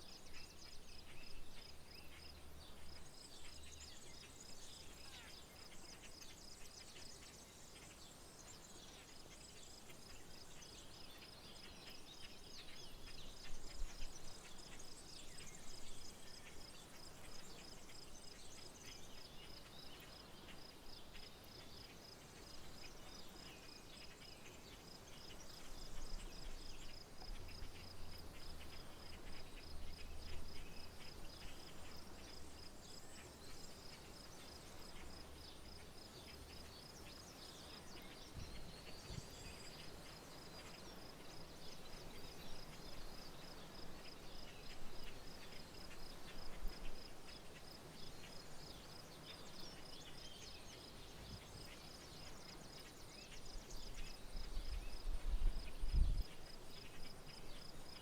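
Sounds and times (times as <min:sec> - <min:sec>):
birds singing: 0:00.0 - 0:58.0
cricket chirping: 0:00.0 - 0:58.0.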